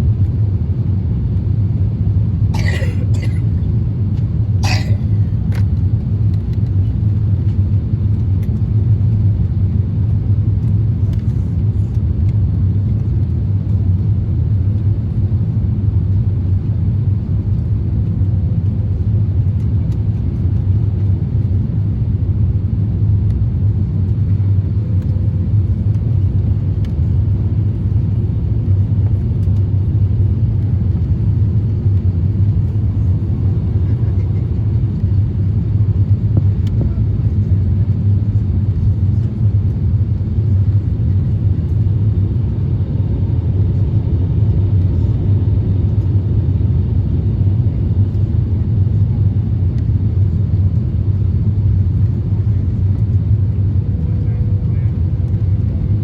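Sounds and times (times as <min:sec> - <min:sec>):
airliner cabin engine drone: 0:00.0 - 0:56.0.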